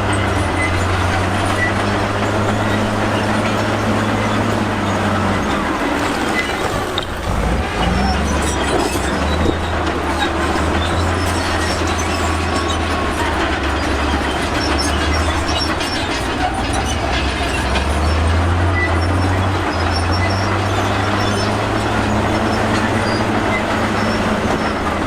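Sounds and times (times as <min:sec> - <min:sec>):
diesel engine drone: 0:00.0 - 0:25.0
steel tracks clattering and squealing: 0:00.0 - 0:25.0.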